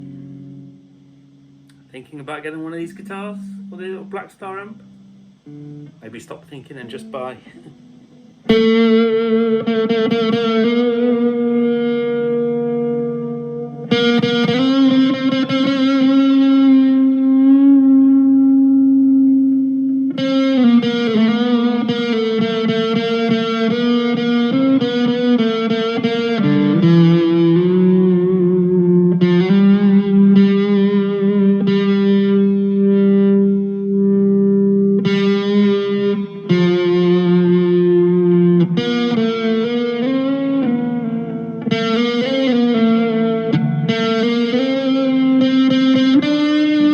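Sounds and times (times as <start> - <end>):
electric guitar chords strummed: 0.0 - 46.9.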